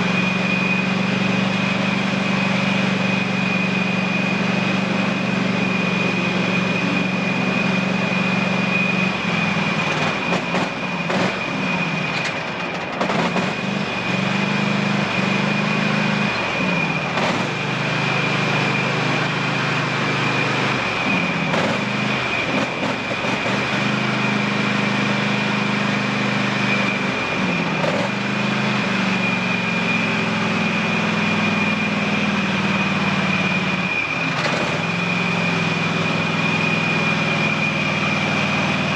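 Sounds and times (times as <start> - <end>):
high whine: 0.0 - 38.9
lawn tractor engine running: 0.0 - 38.9.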